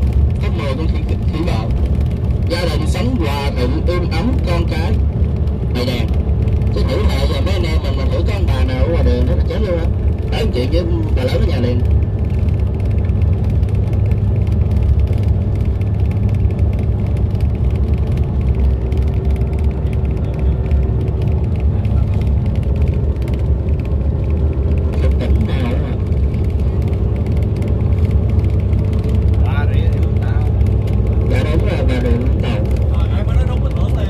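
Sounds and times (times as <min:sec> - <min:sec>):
engine and road noise: 0:00.0 - 0:34.0.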